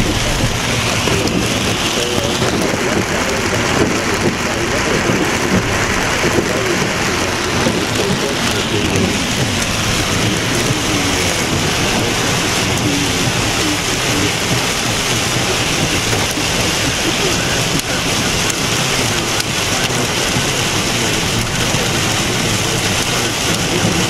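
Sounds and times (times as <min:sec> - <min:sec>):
heavy rain on car roof: 0:00.0 - 0:24.0.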